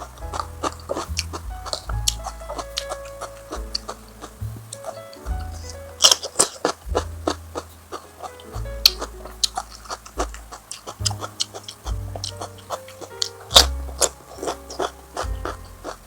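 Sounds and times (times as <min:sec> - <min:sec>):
person chewing crunchy food: 0:00.0 - 0:05.0, 0:05.6 - 0:16.0
background music with bass: 0:00.0 - 0:16.0.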